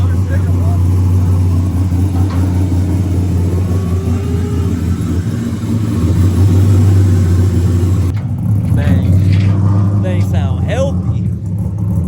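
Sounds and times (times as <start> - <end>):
car engine running steadily: 0.0 - 12.0.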